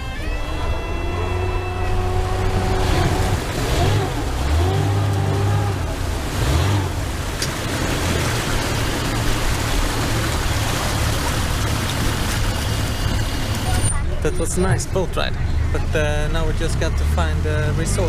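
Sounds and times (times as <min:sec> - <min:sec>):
rush of wind and water: 0:00.0 - 0:18.0
speedboat engine roaring: 0:00.0 - 0:18.0.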